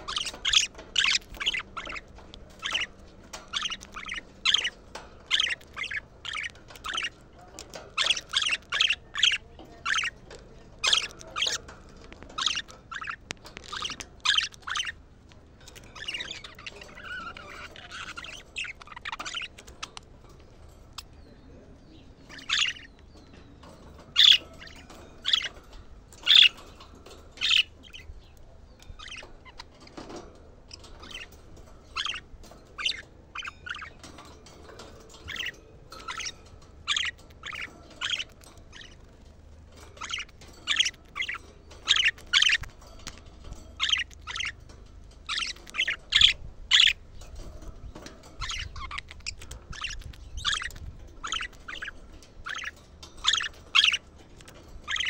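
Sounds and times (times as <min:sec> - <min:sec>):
budgerigars chirping: 0:00.0 - 0:55.0.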